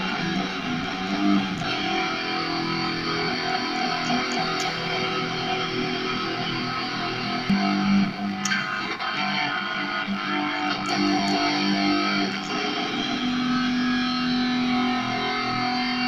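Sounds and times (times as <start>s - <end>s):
distorted electric guitar lead: 0.0s - 16.0s.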